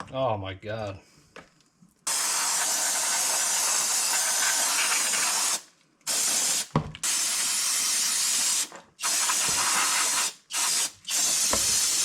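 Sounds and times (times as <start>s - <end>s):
pressurized spray hissing: 2.1s - 12.0s.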